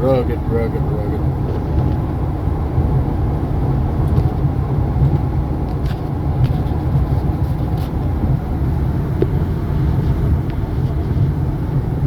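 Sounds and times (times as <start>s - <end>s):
vehicle rumble on highway: 0.0s - 12.0s.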